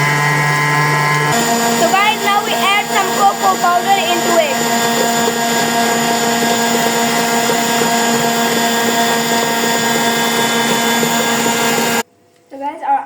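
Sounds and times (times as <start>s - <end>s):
electric mixer motor running: 0.0s - 12.0s.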